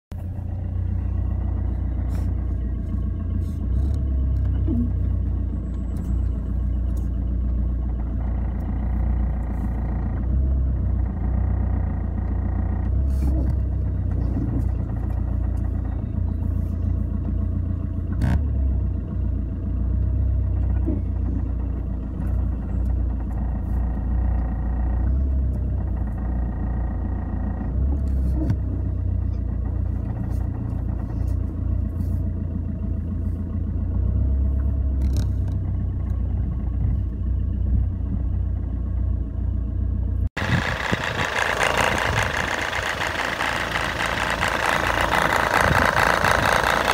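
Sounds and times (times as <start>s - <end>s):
diesel engine running: 0.0s - 46.9s
engine knocking: 0.1s - 46.9s.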